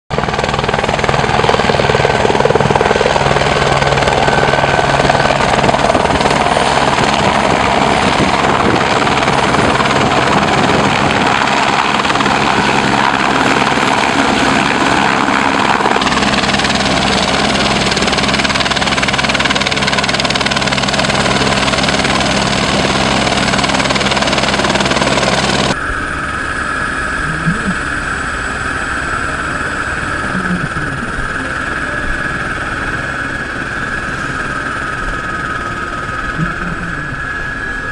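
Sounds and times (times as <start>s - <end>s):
helicopter rotor and engine: 0.1s - 37.9s.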